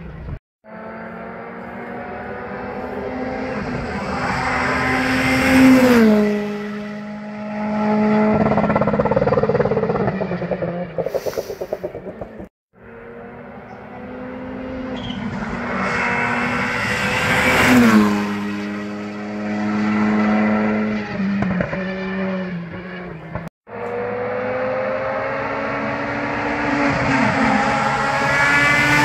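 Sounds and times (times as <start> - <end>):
car engine rising in pitch: 0.7 - 29.0
rally car engine revving: 0.7 - 29.0.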